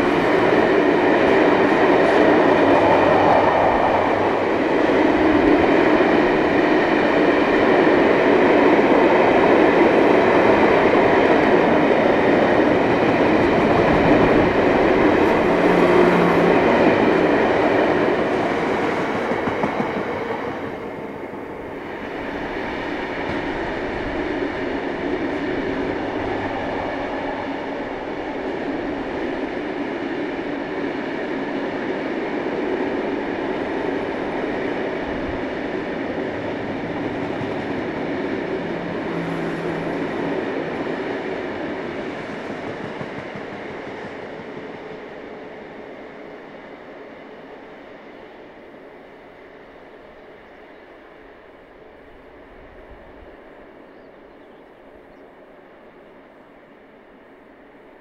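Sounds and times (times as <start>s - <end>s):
freight train wheels rumbling: 0.0s - 53.7s.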